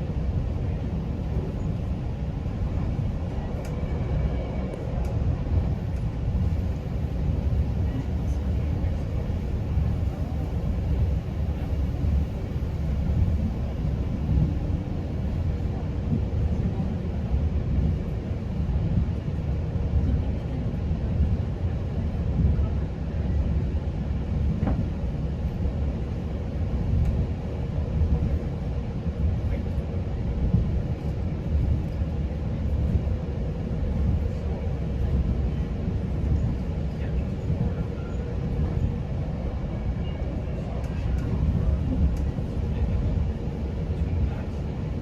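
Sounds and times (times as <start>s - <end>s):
train coach rumbling on track: 0.0s - 45.0s.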